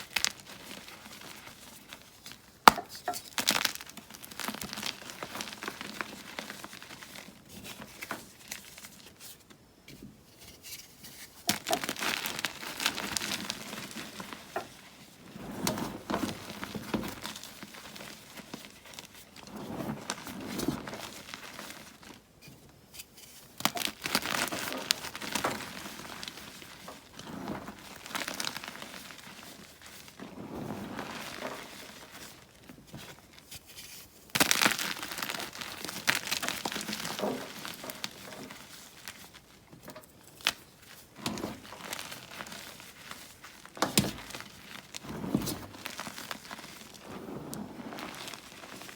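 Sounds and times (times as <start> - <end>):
powdery rustling: 0.0 - 9.4, 10.4 - 22.4, 23.0 - 48.9.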